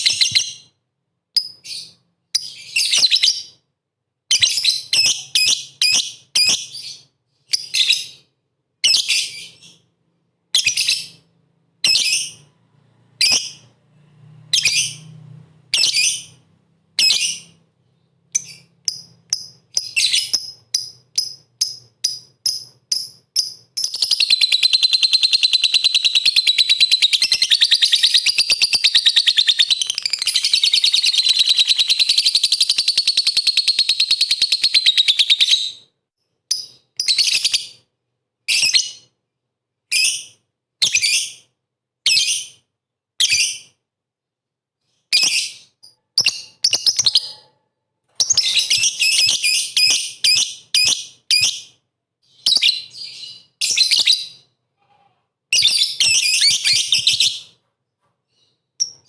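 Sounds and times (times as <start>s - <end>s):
lovebird chirping and trilling: 0.0s - 0.8s, 1.4s - 3.6s, 4.3s - 9.9s, 10.5s - 12.5s, 13.2s - 13.8s, 14.5s - 16.4s, 17.0s - 35.9s, 36.5s - 37.9s, 38.5s - 39.2s, 39.9s - 42.6s, 43.2s - 43.8s, 44.9s - 47.5s, 48.2s - 54.6s, 55.5s - 57.6s, 58.3s - 59.0s.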